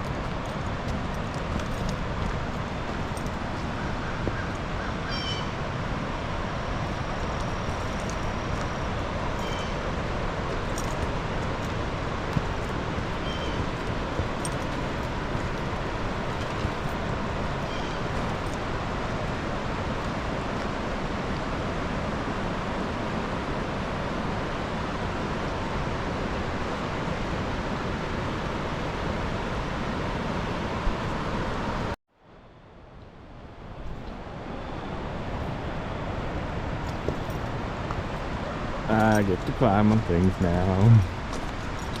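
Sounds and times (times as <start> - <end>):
river rapids rushing: 0.0 - 32.0, 34.4 - 42.0.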